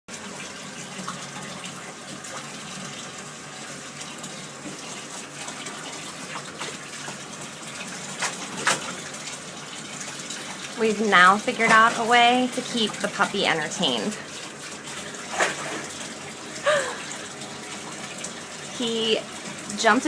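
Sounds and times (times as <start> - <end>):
tap running into bathtub: 0.1 - 20.0.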